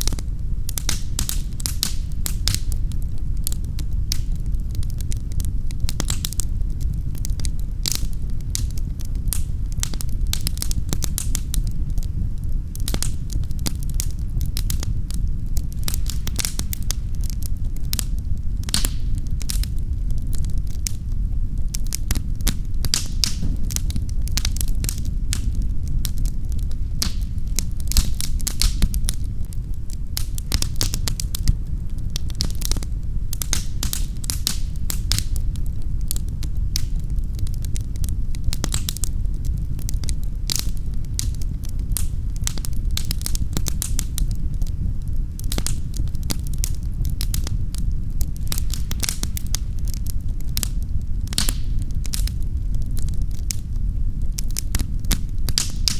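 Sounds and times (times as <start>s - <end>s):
low rumble of flames: 0.0s - 55.9s
wood fire crackling and popping: 0.0s - 55.9s.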